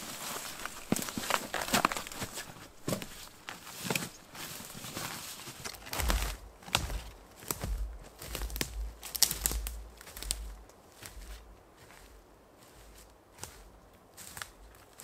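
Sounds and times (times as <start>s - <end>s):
footsteps on forest floor: 0.0s - 15.0s.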